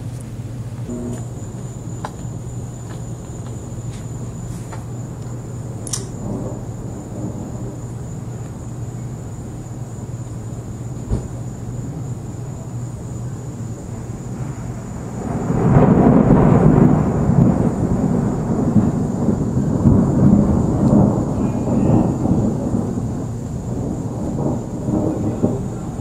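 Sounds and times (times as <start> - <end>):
rolling thunder: 0.0 - 26.0.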